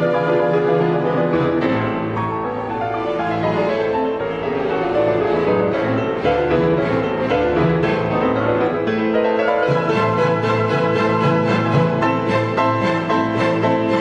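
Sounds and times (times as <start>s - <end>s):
bowed strings: 0.0s - 14.0s
piano: 0.0s - 14.0s.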